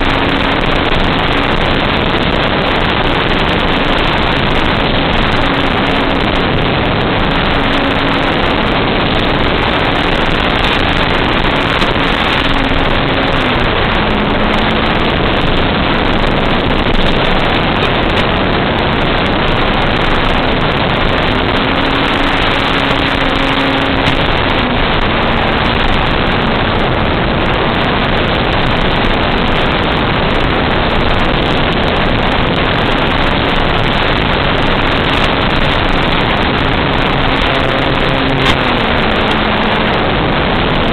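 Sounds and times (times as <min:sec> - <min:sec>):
model airplane propeller rushing: 0:00.0 - 0:40.9.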